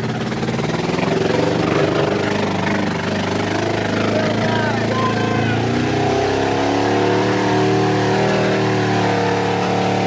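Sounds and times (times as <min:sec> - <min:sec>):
vee eight engine revving: 0:00.0 - 0:10.0.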